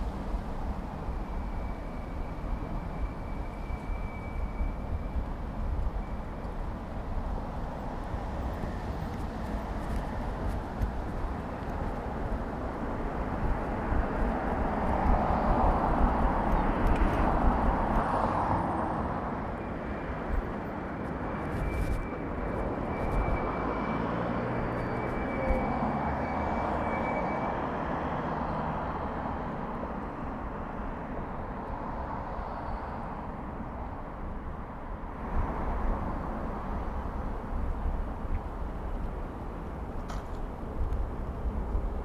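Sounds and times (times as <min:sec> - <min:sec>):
street traffic passing: 0:00.0 - 0:42.0.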